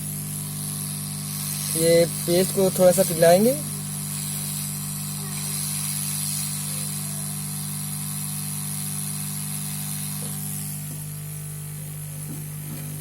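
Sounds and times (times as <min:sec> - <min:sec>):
hot-air blower hissing: 0:00.0 - 0:13.0.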